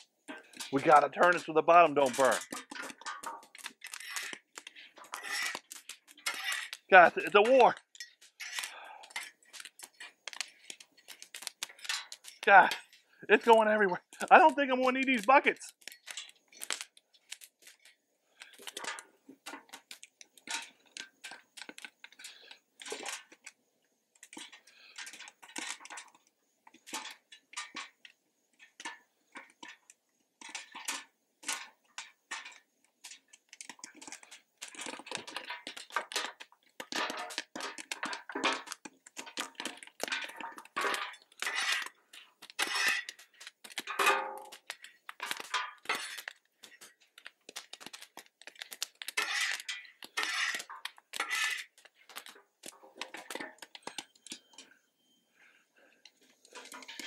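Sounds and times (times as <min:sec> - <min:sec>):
popcorn popping in hot oil: 0:00.0 - 0:54.8, 0:55.4 - 0:57.0.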